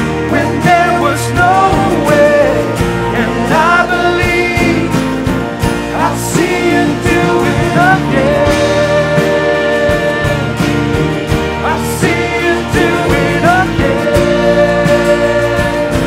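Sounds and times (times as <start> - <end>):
band of guitar and drums: 0.0 - 16.0
person singing: 0.1 - 11.0, 11.6 - 16.0.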